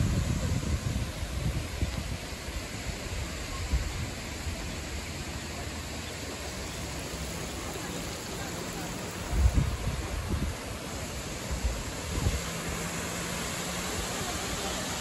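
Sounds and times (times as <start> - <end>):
wind rumble on microphone: 0.0 - 5.1, 6.6 - 14.7
hiss of moving air or water: 0.0 - 15.0.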